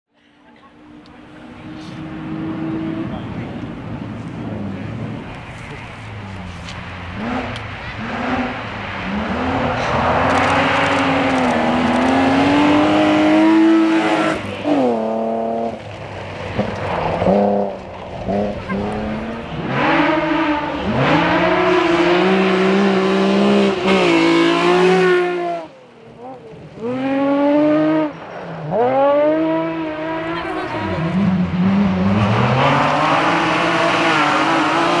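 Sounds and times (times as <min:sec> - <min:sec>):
rally car engines revving: 0:00.5 - 0:35.0.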